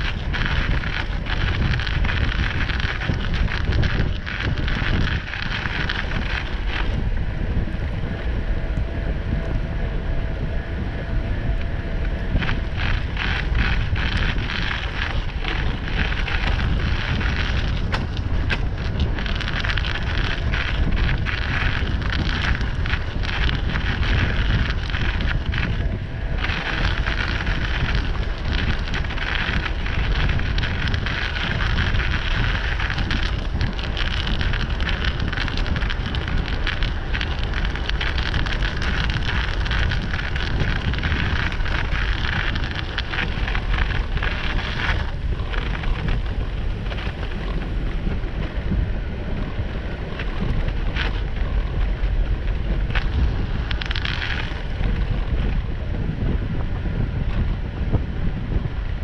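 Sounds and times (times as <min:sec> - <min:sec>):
tyres rolling through wet slush: 0:00.0 - 0:59.0
wind buffeting microphone: 0:00.0 - 0:59.0.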